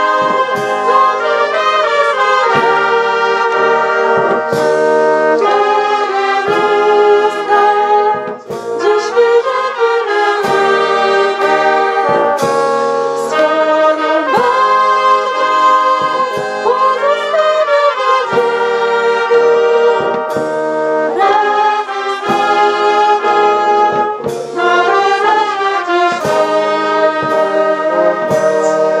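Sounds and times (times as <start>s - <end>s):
slow instrumental music: 0.0s - 29.0s.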